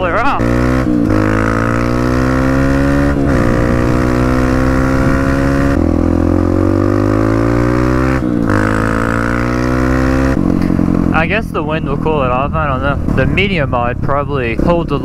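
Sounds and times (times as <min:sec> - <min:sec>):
dirt bike engine accelerating: 0:00.0 - 0:15.0.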